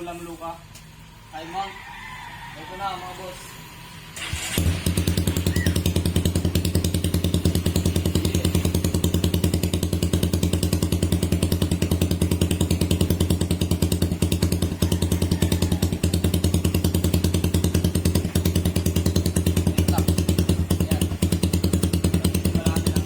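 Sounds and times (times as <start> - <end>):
motorcycle engine idling: 4.2 - 23.0.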